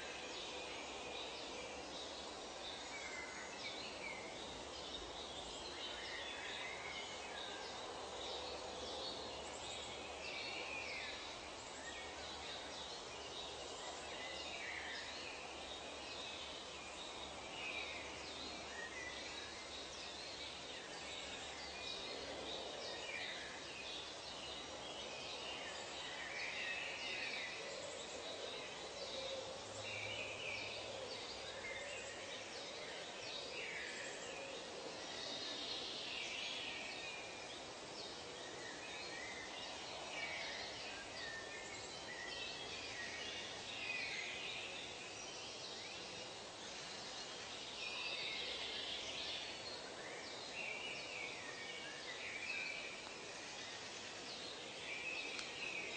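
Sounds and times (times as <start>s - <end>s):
steady background hiss: 0.0s - 55.9s.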